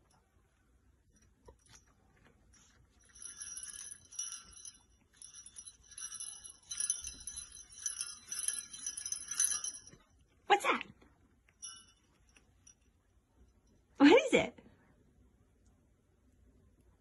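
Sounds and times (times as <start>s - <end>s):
small jingle bell jingling: 0.0s - 14.0s.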